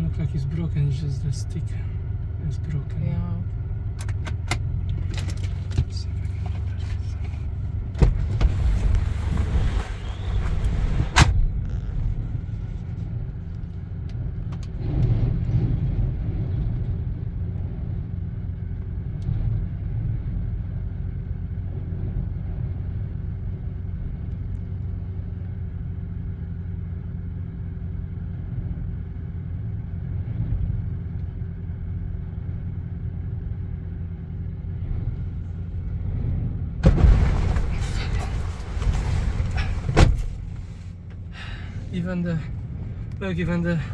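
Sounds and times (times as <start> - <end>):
muffled low rumble: 0.0 - 43.9.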